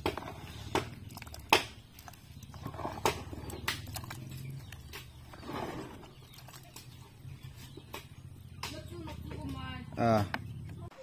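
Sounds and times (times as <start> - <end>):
wet mash squelching: 0.0 - 9.3.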